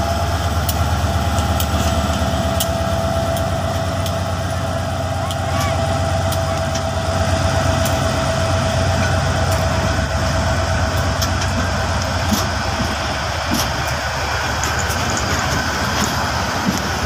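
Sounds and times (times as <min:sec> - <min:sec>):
diesel locomotive drone: 0:00.0 - 0:17.0
wheels clicking on rails: 0:00.0 - 0:17.0.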